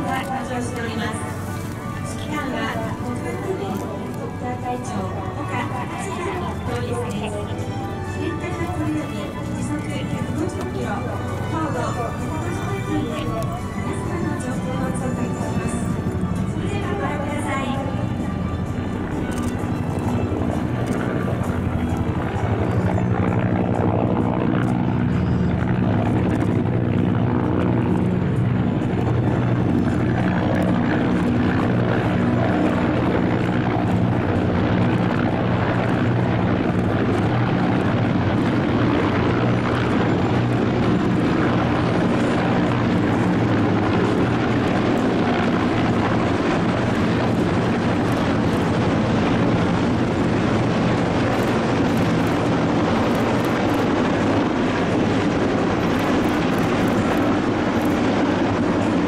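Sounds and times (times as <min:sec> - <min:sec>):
helicopters rotor and turbine drone: 0:00.0 - 0:59.0
wind buffeting microphone: 0:00.0 - 0:59.0.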